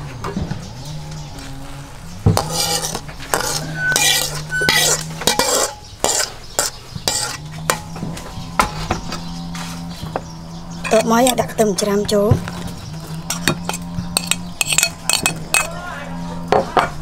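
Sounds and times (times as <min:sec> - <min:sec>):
wok scraping against bowl: 0:02.1 - 0:15.8.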